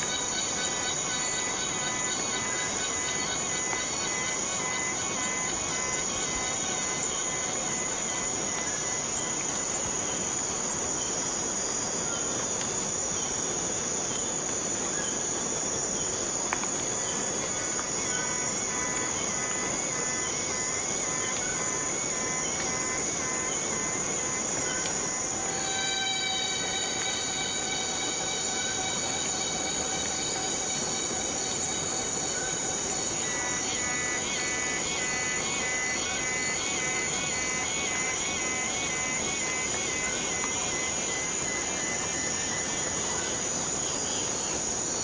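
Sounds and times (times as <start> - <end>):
high-pitched insect drone: 0.0 - 45.0
pulsing insect chirp: 0.0 - 45.0
rain falling: 0.5 - 45.0.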